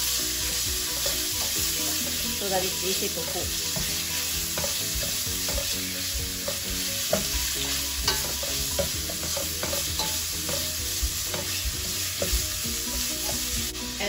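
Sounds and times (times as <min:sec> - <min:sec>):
meat sizzling in a pan: 0:00.0 - 0:14.0
spatula scraping and tapping pan: 0:00.9 - 0:02.0, 0:03.0 - 0:13.6.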